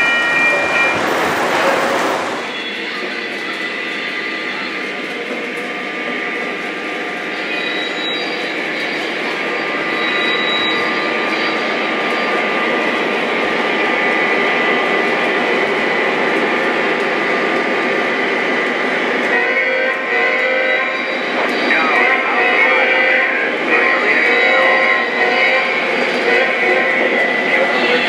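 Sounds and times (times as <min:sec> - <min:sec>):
model train rumbling on rails: 0:00.0 - 0:28.0.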